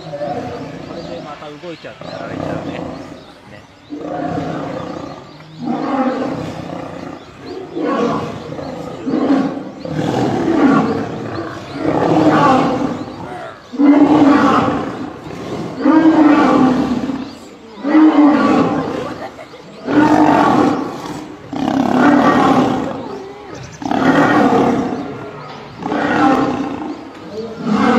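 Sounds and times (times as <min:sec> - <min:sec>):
lions growling: 0:00.0 - 0:27.9.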